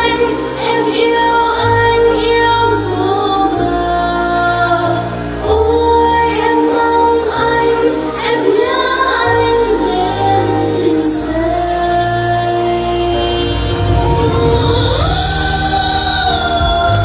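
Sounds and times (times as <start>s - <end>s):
backing music with bass notes: 0.0s - 17.0s
woman singing with vibrato: 0.0s - 17.0s.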